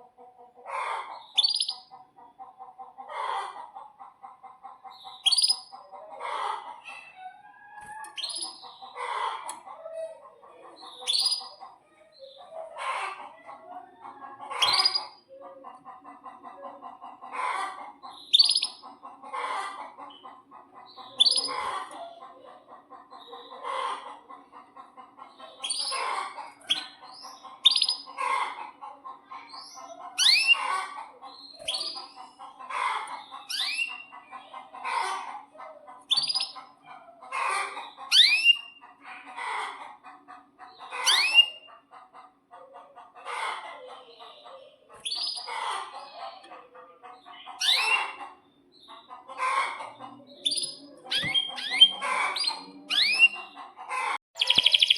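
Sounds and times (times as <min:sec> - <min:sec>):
canary calling: 0:00.7 - 0:02.0, 0:04.8 - 0:38.9, 0:40.6 - 0:41.8, 0:43.4 - 0:54.9.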